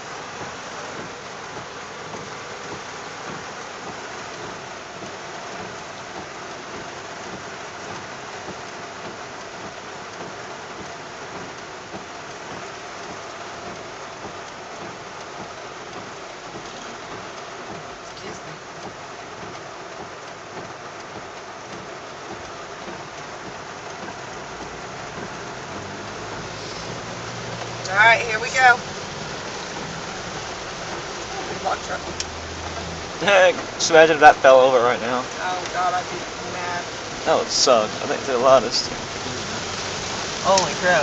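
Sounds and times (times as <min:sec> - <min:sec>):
heavy rain on a car: 0:00.0 - 0:41.0.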